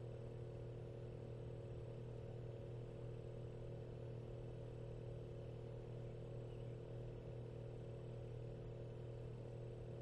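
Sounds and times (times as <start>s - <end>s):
faint low hum with hiss: 0.0s - 10.0s.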